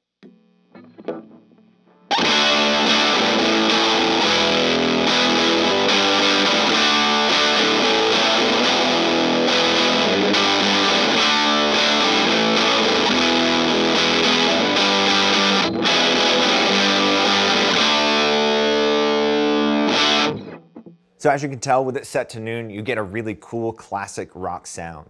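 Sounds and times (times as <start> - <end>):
overdriven electric guitar: 0.7 - 21.0.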